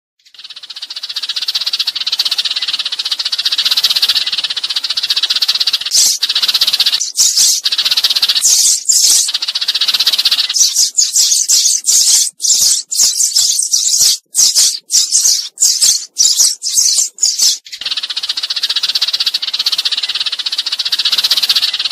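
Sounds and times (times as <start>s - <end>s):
sparrows chattering and chirping: 0.2s - 21.9s.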